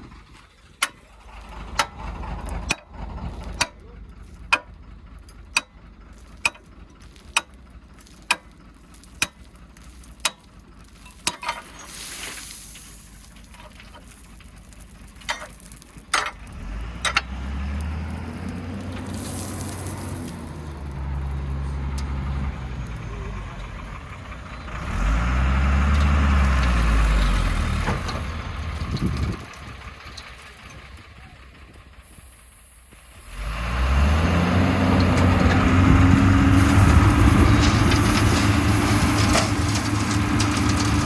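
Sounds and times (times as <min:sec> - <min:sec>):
heavy vehicle engine running: 0:00.0 - 0:41.0.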